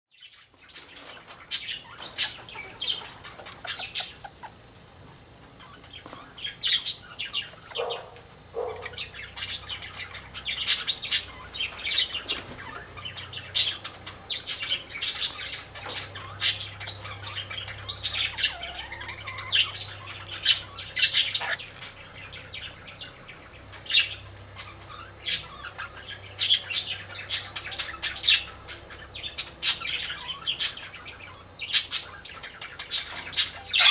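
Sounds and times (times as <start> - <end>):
parakeets chirping: 0.1 - 33.9
chickens clucking: 0.8 - 33.9.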